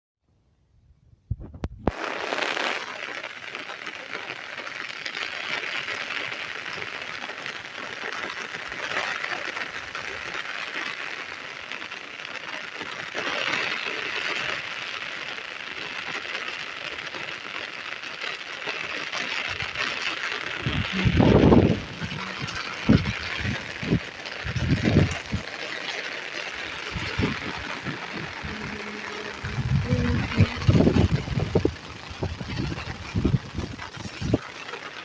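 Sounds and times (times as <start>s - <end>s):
rain falling: 1.9s - 35.0s.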